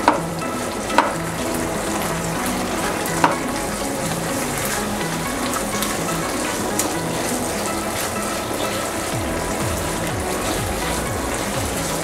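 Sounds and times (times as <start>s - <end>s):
sauce sizzling and bubbling: 0.0s - 12.0s
soft background music: 0.0s - 12.0s.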